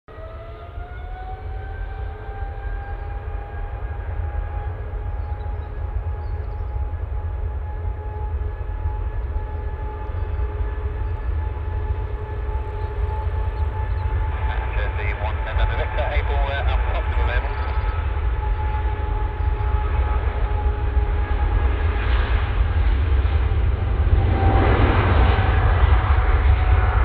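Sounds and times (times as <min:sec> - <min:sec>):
jet engines whining at takeoff: 0:00.1 - 0:27.0
heavy low rumble: 0:01.5 - 0:27.0.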